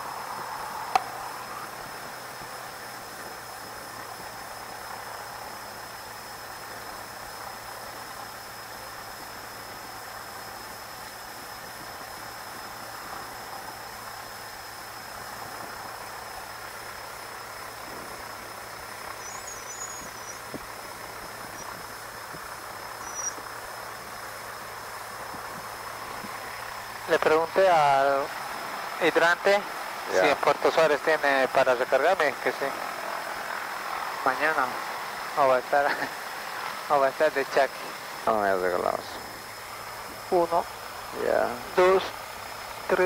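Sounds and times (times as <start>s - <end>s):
muffled aircraft engine idling: 0.0s - 43.0s.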